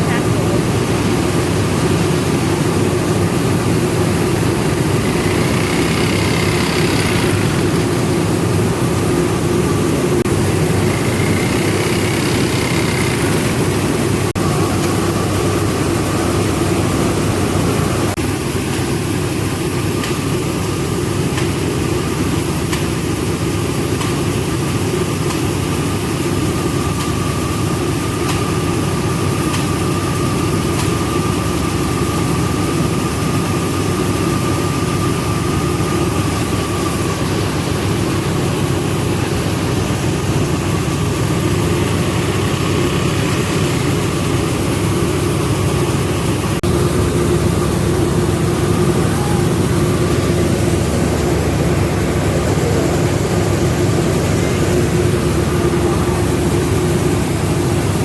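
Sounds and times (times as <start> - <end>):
rice milling machinery humming: 0.0 - 58.0.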